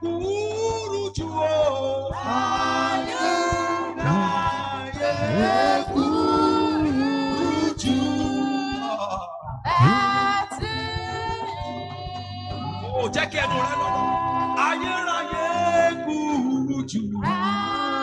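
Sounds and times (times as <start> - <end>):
gospel song with held notes: 0.0 - 18.0.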